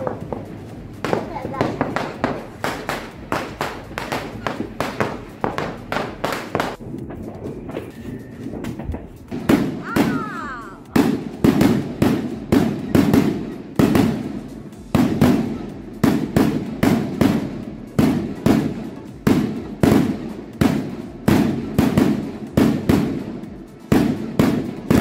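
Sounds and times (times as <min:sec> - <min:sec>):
firework shells bursting: 0:00.0 - 0:25.0.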